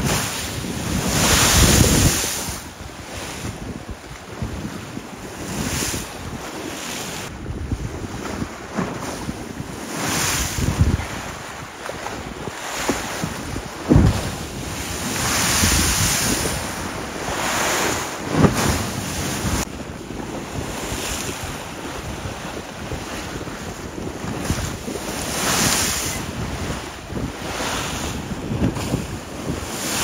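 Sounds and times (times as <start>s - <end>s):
lake waves sloshing and breaking: 0.0s - 30.0s
wind buffeting microphone: 0.0s - 30.0s.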